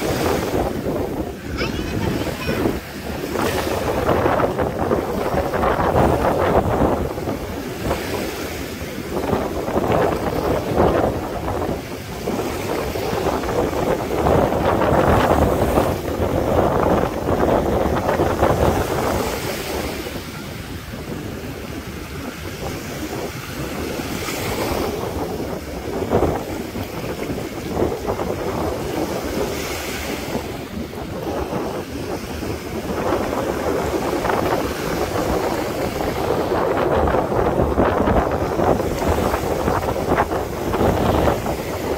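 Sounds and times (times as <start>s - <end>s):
sea surf breaking on beach: 0.0s - 41.9s
wind buffeting microphone: 0.0s - 41.9s.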